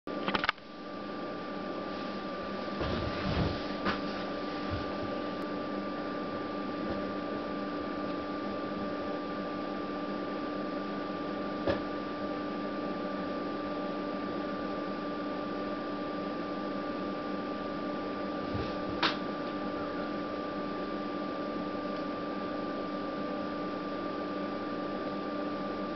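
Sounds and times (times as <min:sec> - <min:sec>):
electrical hum and hiss: 0:00.1 - 0:25.9.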